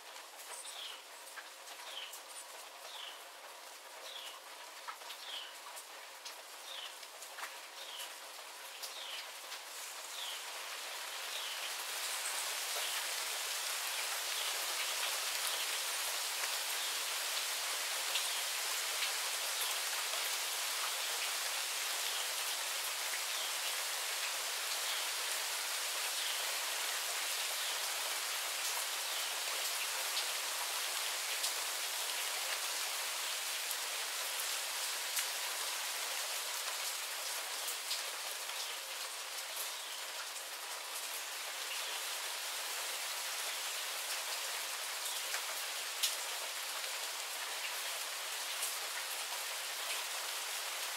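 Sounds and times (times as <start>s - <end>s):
rain falling steadily: 0.0s - 50.9s.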